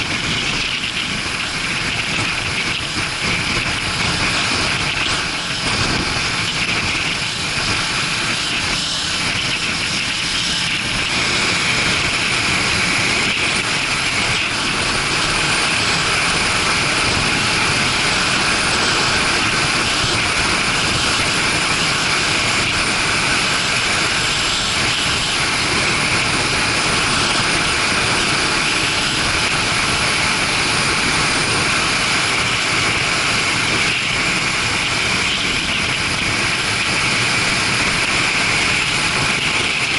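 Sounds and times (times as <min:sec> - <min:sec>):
motorcycle engine drone: 0:00.0 - 0:39.9
wind rush: 0:00.0 - 0:39.9.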